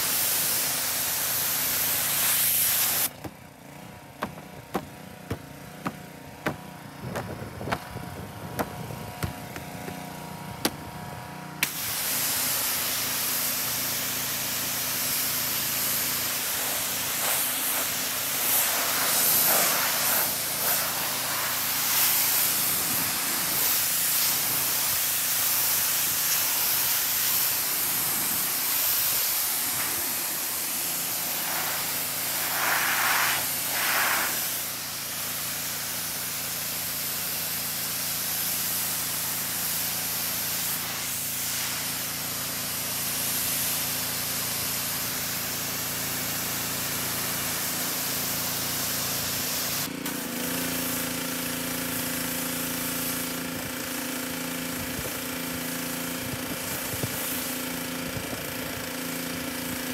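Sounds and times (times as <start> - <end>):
pressure washer hum: 0.0 - 59.9
pressure washer spraying water: 0.0 - 59.9.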